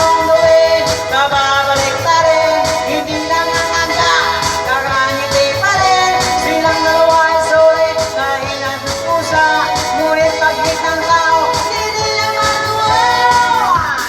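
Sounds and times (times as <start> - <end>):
song with instrumental accompaniment: 0.0 - 14.0.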